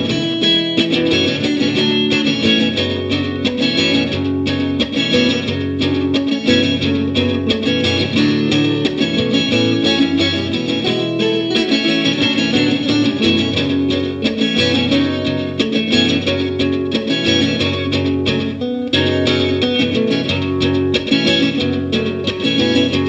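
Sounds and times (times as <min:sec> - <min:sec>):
plucked guitar notes: 0:00.0 - 0:23.0.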